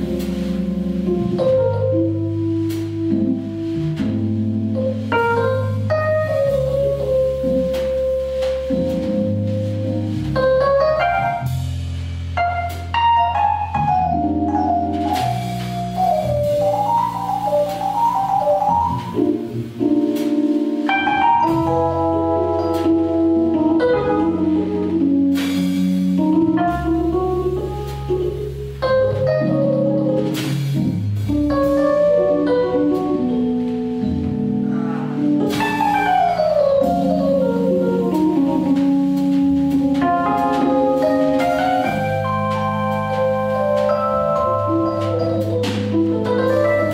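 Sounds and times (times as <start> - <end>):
double bass notes: 0.0 - 46.9
piano melody: 0.0 - 46.9.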